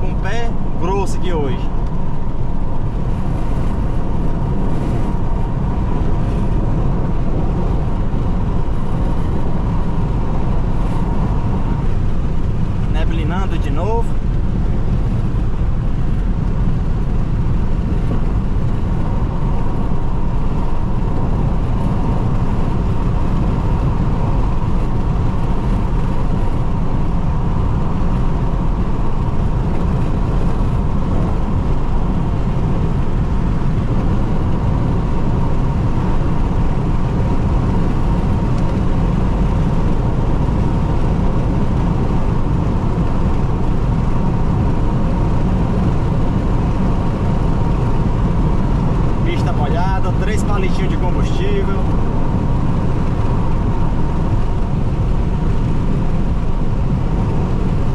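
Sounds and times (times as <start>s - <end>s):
car cruising interior rumble: 0.0s - 57.9s.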